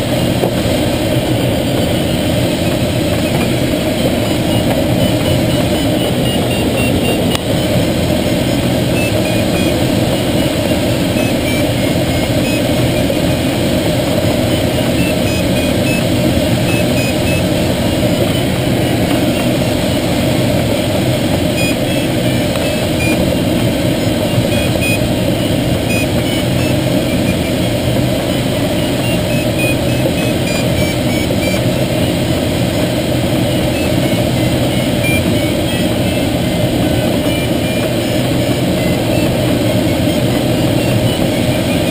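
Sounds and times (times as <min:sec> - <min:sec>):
air rushing around glider canopy: 0:00.0 - 0:41.9
tow plane engine drone: 0:00.0 - 0:41.9.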